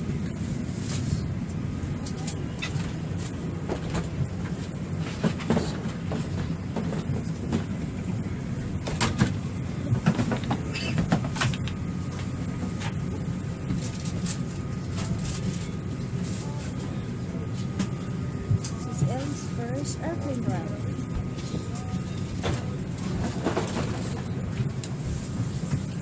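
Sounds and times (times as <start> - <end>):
airliner cabin air system hum: 0.0 - 26.0.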